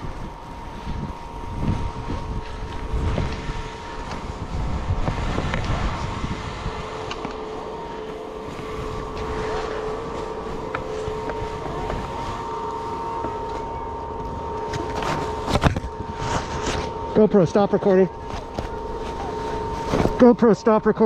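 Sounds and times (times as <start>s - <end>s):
wind on microphone: 0.0s - 17.1s
faint two-tone hum: 0.0s - 21.0s
skis sliding over snow: 0.1s - 21.0s.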